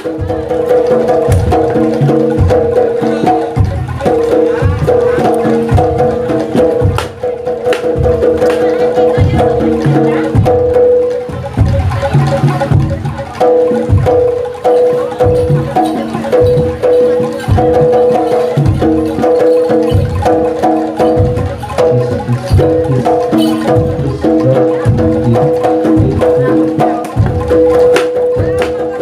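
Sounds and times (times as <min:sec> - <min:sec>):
metal mallet instruments melody: 0:00.0 - 0:29.0.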